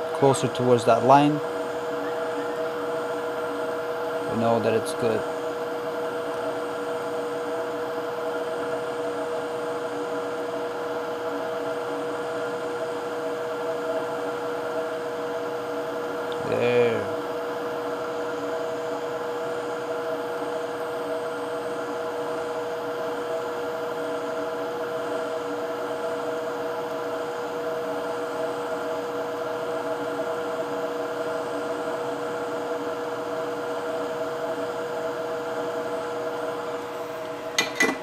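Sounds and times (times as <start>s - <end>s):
hot air station hissing and whining: 0.0s - 38.0s.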